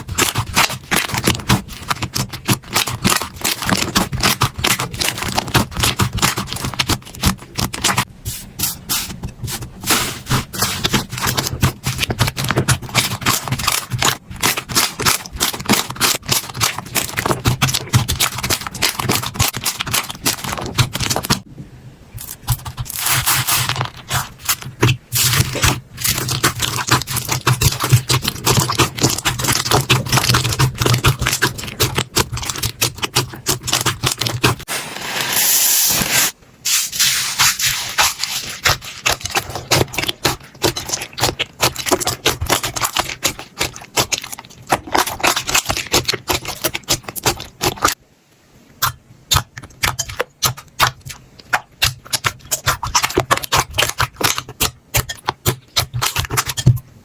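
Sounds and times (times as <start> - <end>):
slime clicking and crackling: 0.0 - 8.1, 9.4 - 21.5, 22.2 - 34.7, 37.4 - 48.0, 48.8 - 56.8.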